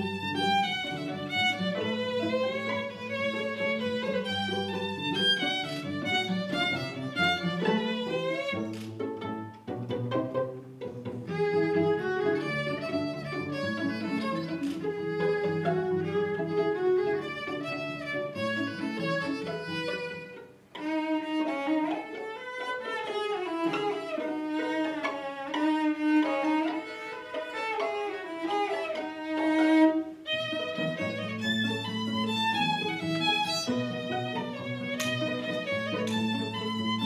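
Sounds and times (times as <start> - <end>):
cello line: 0.0 - 37.0
violins and viola playing: 0.0 - 37.0.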